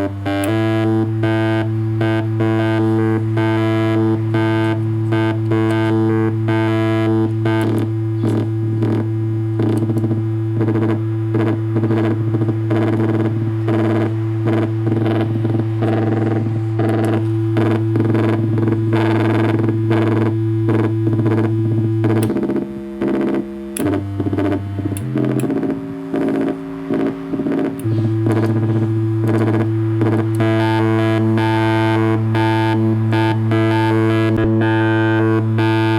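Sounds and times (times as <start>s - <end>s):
fast pulsing synthesizer pattern: 0.0s - 35.9s
low synthesizer drone: 0.0s - 35.9s.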